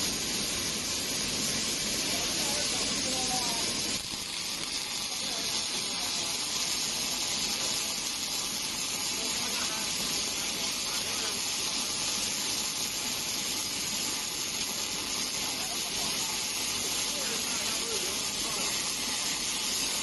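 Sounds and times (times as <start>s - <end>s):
welding arc hissing: 0.0s - 20.0s.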